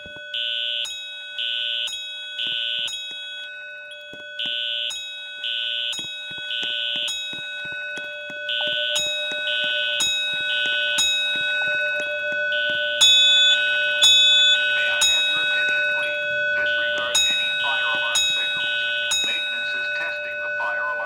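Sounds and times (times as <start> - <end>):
fire alarm horn blasts: 0.0 - 21.0
thin steady tone: 0.0 - 21.0.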